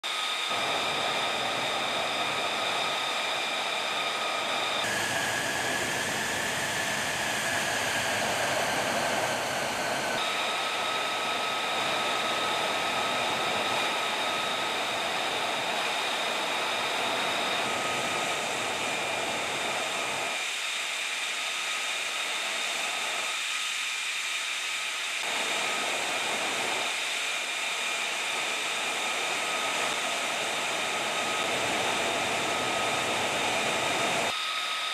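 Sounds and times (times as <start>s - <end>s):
jet engine idling: 0.1s - 23.2s, 25.3s - 34.8s.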